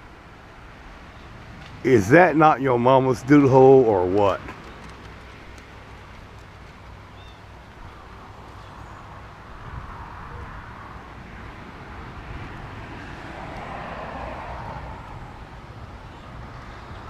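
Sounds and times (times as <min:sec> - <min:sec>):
passing vehicle: 0:00.0 - 0:17.0.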